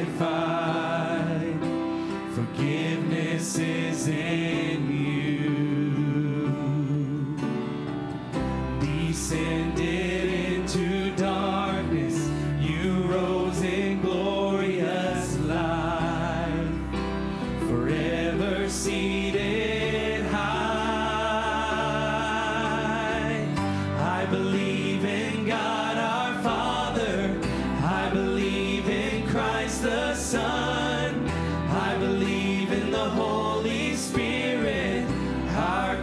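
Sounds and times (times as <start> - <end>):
people singing with vibrato: 0.0 - 36.0
worship band playing: 0.0 - 36.0.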